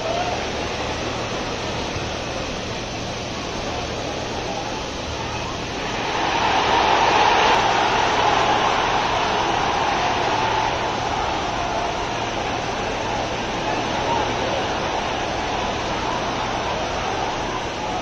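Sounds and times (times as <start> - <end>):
stadium crowd noise: 0.0 - 18.0.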